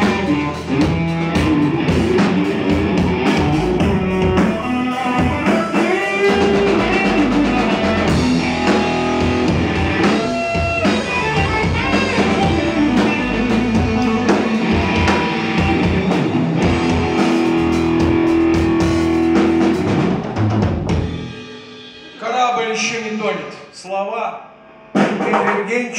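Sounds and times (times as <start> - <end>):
bass guitar: 0.0 - 22.2
electric guitar: 0.0 - 22.2
drum kit: 0.0 - 23.7, 24.8 - 25.9.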